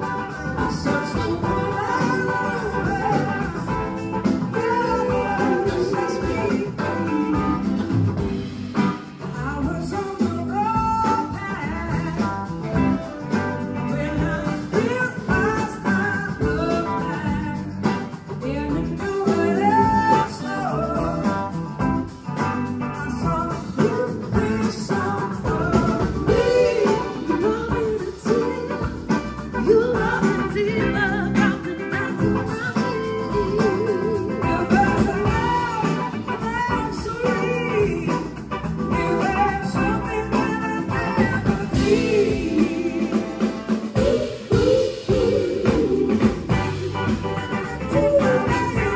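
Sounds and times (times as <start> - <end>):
blues-rock band playing: 0.0 - 48.9
woman singing: 0.0 - 48.9.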